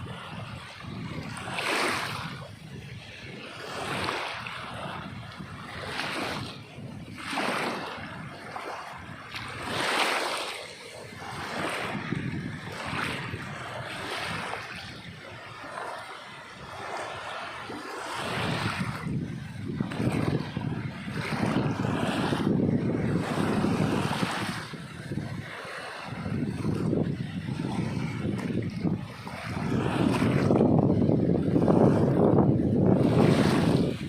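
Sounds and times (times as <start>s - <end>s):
sea waves breaking: 0.0s - 34.0s.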